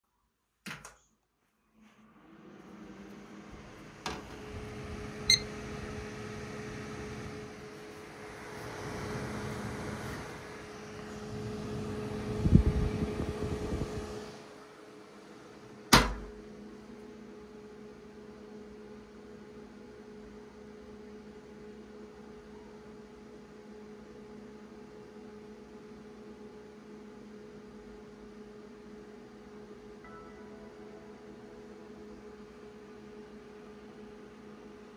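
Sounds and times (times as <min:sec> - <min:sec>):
computer fan whirring: 0:01.8 - 0:34.9.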